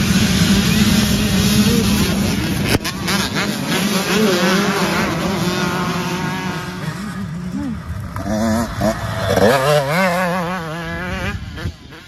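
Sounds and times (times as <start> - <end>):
many dirt bike engines revving: 0.0 - 12.0
single dirt bike revving through gears: 0.0 - 12.0.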